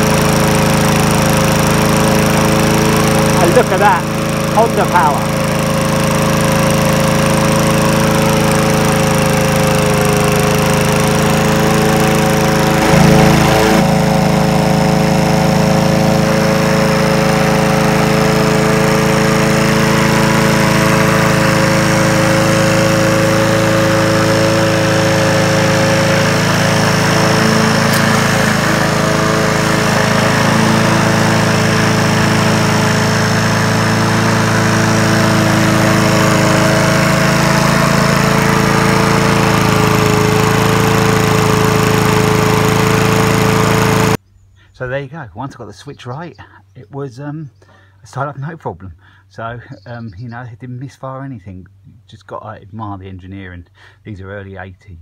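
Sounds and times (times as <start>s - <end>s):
lawnmower engine running: 0.0s - 45.0s.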